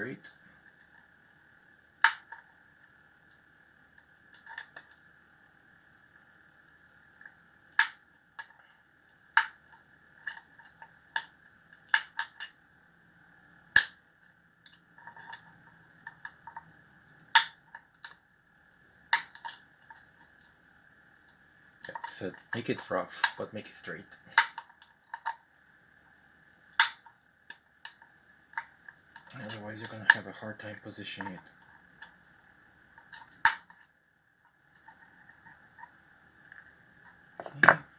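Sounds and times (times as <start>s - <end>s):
faint steady hiss: 0.0s - 37.9s.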